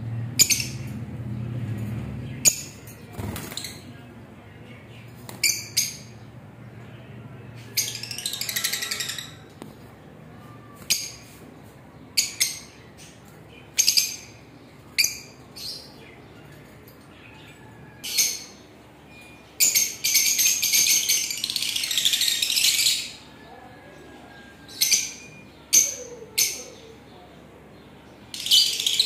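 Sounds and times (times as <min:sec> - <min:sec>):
lovebirds calling and chattering: 0:00.0 - 0:29.0.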